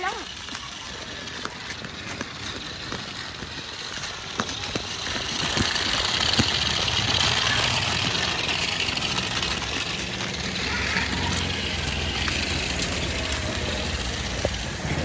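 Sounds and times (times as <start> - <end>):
toy car electric motor whining: 0.0 - 14.8
wheels clicking on grit: 0.0 - 15.0.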